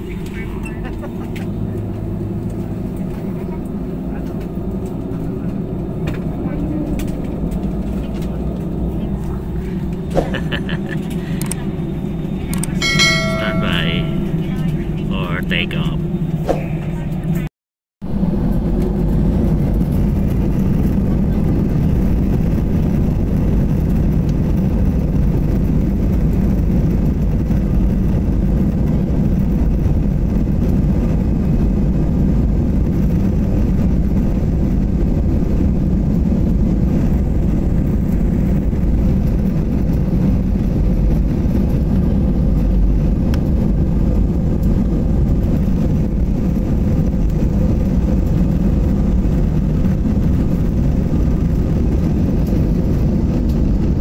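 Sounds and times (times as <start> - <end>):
wheels rolling on taxiway: 0.0 - 13.2, 18.1 - 54.0
jet engines low rumble: 0.0 - 54.0.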